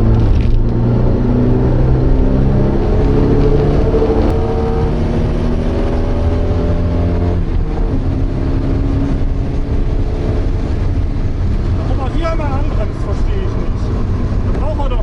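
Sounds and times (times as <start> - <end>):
race car engine under load: 0.0 - 15.0.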